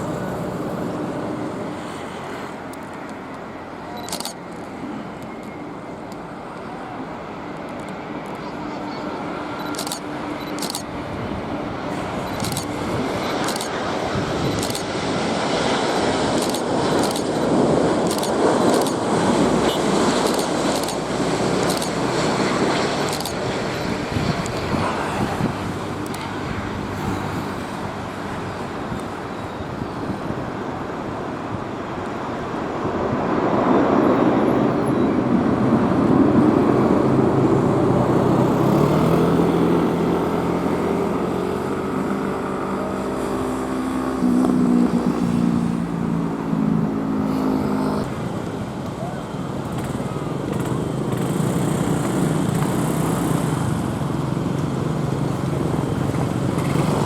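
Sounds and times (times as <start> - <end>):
engine noise: 0.0 - 57.0.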